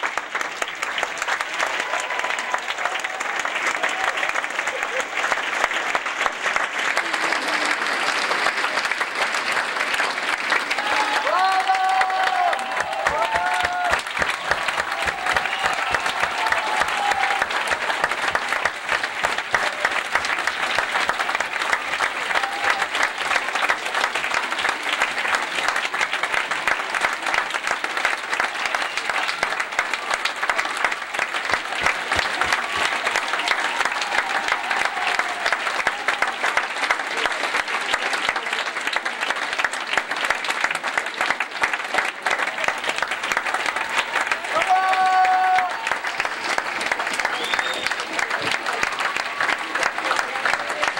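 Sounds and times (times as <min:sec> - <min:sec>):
audience applauding: 0:00.0 - 0:50.9.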